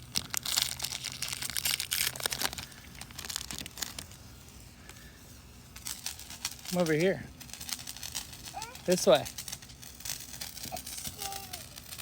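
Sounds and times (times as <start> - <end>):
foil wrapper crinkling and tearing: 0.0 - 5.1, 5.7 - 12.0.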